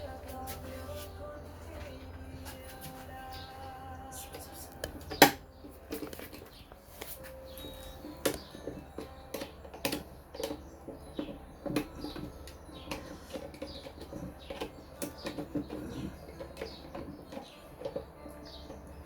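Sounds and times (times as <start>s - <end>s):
small birds chirping: 0.0s - 19.0s
small hard parts clicking: 1.7s - 19.0s.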